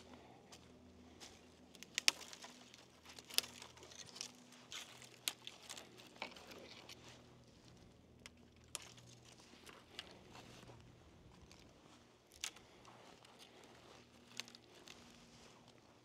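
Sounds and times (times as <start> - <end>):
faint low hum: 0.0 - 16.0
rustling and crinkling: 0.2 - 16.0.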